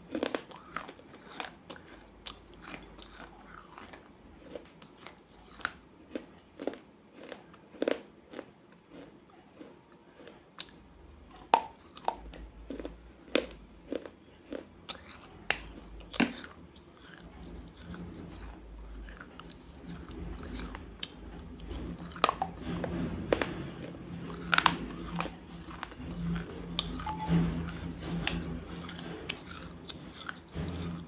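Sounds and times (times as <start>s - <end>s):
crunchy chewing: 0.1s - 31.0s.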